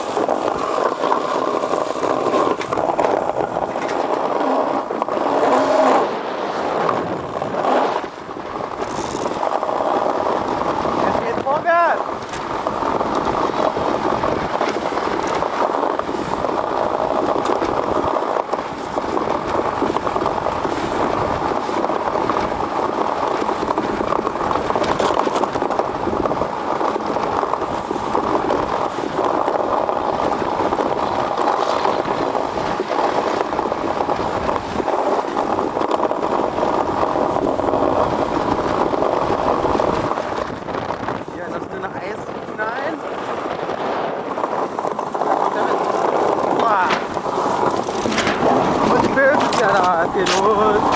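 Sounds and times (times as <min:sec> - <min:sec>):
ice yacht runners on ice: 0:00.0 - 0:50.9
rushing wind: 0:00.0 - 0:50.9.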